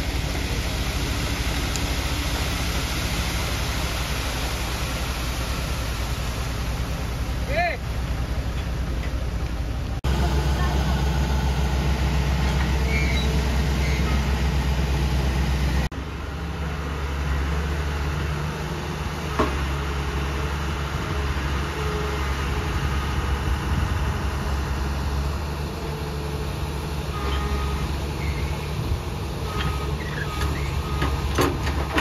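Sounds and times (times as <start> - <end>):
construction machinery engine: 0.0 - 32.0.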